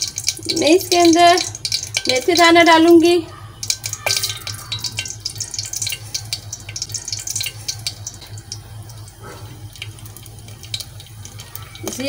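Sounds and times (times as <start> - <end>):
low steady hum: 0.0 - 12.0
seeds sizzling in hot oil: 0.0 - 12.0.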